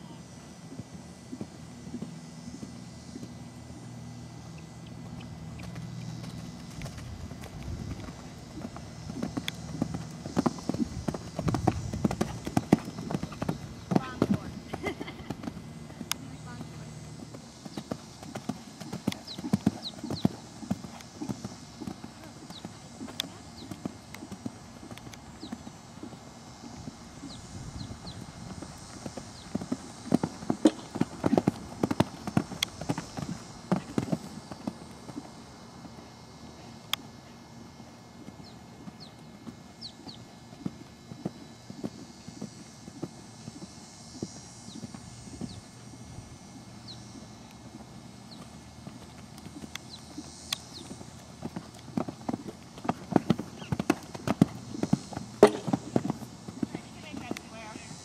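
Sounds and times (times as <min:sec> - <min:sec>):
horse hoofbeats on sand: 0:05.0 - 0:36.0, 0:38.1 - 0:58.0.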